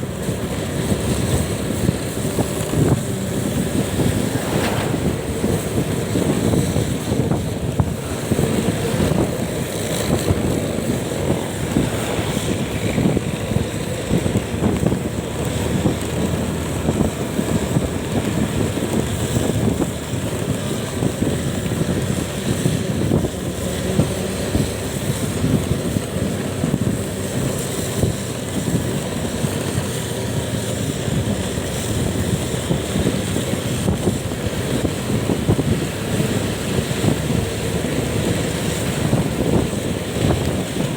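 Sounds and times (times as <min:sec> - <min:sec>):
road noise: 0:00.0 - 0:40.9
vehicle engine: 0:00.0 - 0:40.9
wind buffeting microphone: 0:00.0 - 0:40.9.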